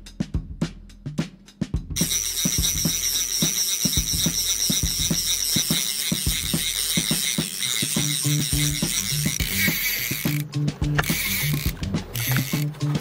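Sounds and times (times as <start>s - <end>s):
music drum beat: 0.0s - 13.0s
fishing reel drag ratcheting: 2.0s - 13.0s.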